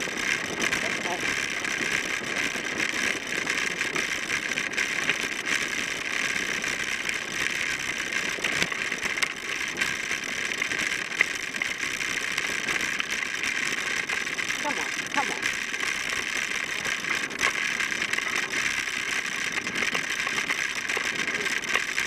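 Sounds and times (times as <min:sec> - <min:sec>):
bicycle tyres rolling over gravel: 0:00.0 - 0:22.0
bike rattling and clicking: 0:00.0 - 0:22.0.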